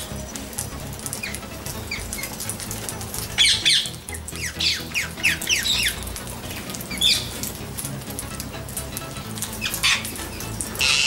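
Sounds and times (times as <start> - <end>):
background music: 0.0 - 11.0
birds chirping: 0.0 - 11.0.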